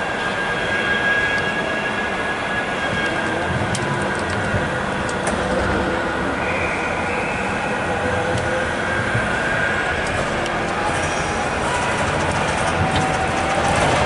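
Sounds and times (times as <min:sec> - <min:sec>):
tram rumbling and whining: 0:00.0 - 0:14.0.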